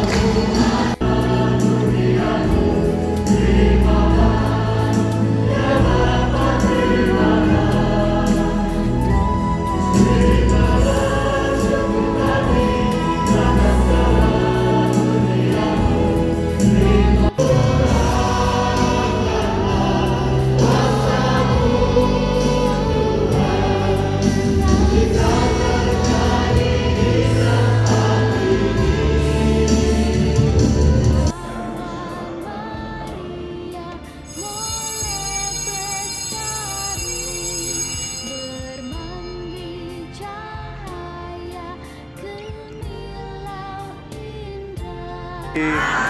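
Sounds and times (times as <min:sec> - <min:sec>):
choir singing with instruments: 0:00.0 - 0:46.0.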